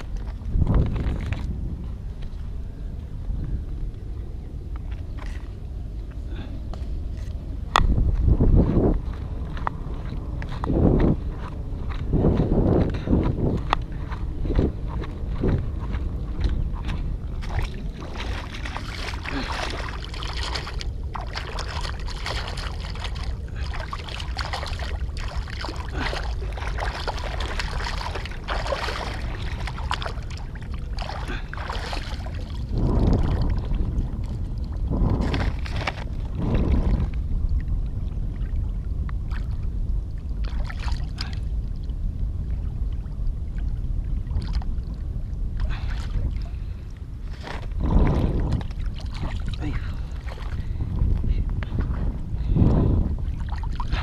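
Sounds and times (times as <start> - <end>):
low rumble: 0.0 - 54.0
seawater splashing and sloshing: 8.4 - 54.0.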